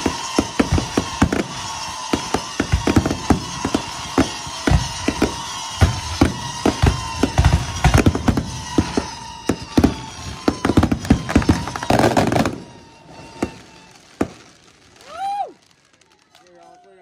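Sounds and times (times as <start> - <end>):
fireworks bangs and crackles: 0.0 - 16.9.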